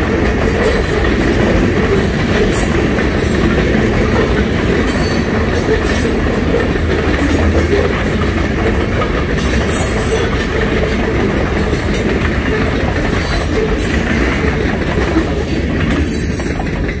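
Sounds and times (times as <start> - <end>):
train wheels rumbling on rails: 0.0 - 17.0
wagons clacking and rattling: 0.0 - 17.0.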